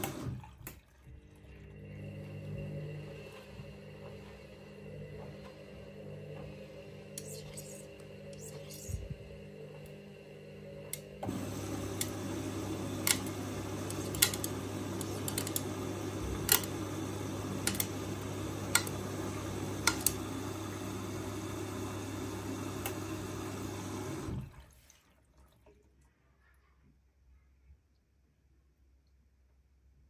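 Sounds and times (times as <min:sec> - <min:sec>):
motor hum: 0:00.0 - 0:24.6.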